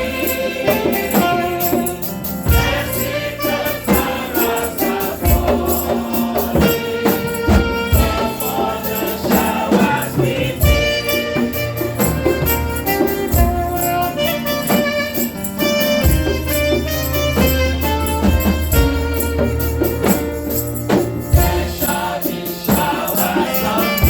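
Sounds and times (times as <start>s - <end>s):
gospel singing: 0.0s - 24.0s
jingling percussion rhythm: 0.0s - 24.0s.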